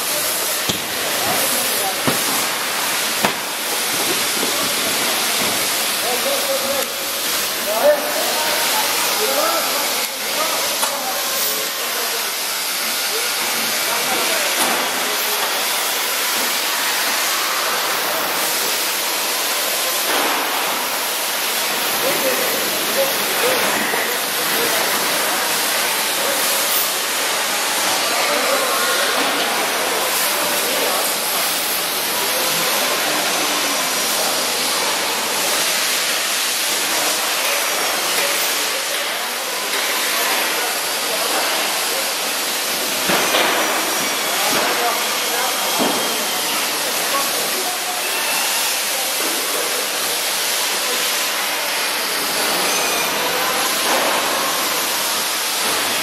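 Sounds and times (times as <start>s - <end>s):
factory machinery hiss: 0.0s - 56.0s.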